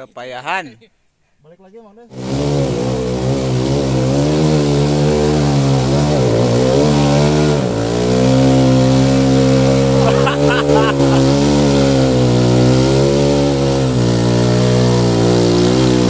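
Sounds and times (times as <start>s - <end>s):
dirt bike engine revving hard: 2.1s - 16.0s.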